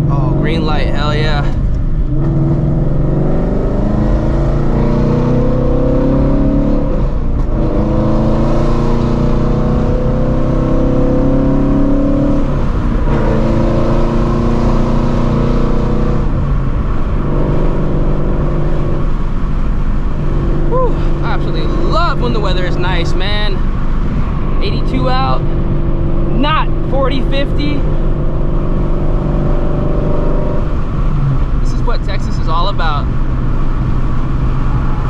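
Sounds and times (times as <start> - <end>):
car engine accelerating through gears: 0.0 - 35.0.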